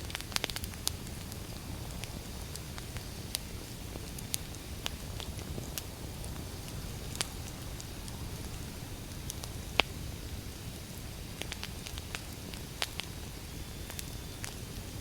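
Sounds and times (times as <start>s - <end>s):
fire rumbling: 0.0s - 15.0s
wood fire crackles and pops: 0.0s - 15.0s.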